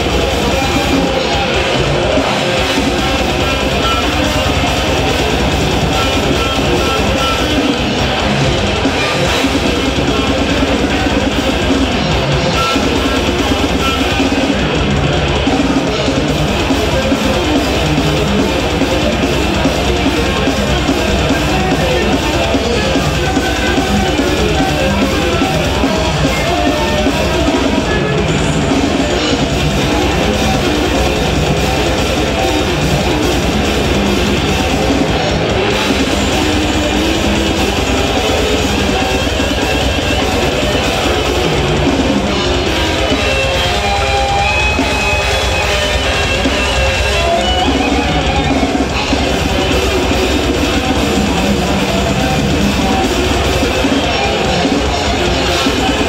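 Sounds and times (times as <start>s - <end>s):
bass guitar: 0.0s - 56.0s
distorted electric guitars: 0.0s - 56.0s
drum kit: 0.0s - 56.0s.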